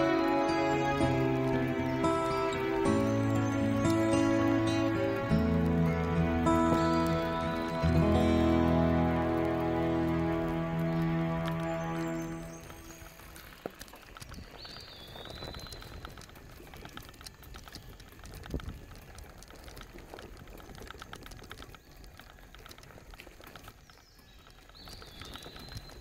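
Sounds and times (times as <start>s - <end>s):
bike tyres crunching on gravel: 0.0s - 26.0s.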